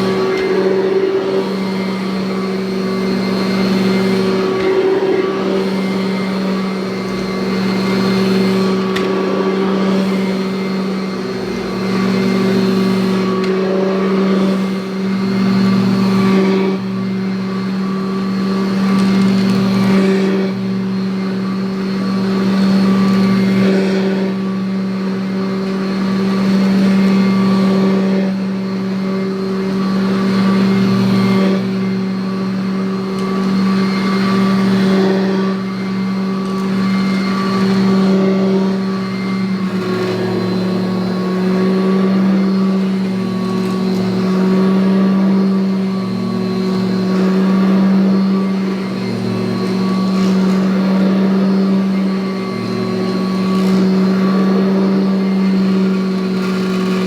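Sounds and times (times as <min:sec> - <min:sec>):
vacuum cleaner motor hum: 0:00.0 - 0:57.0.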